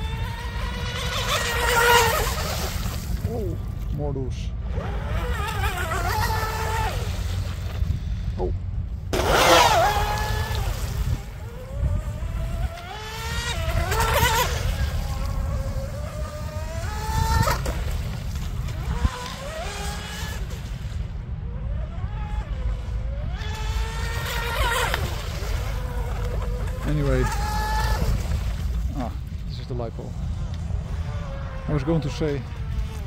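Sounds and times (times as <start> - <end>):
toy boat motor whine: 0.0 - 3.3, 4.6 - 7.8, 9.1 - 28.6, 30.9 - 33.0.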